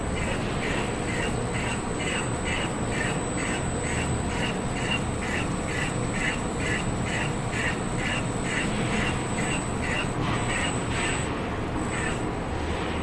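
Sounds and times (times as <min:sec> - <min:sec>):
thin high whine: 0:00.0 - 0:12.4
machine hum: 0:00.0 - 0:13.0.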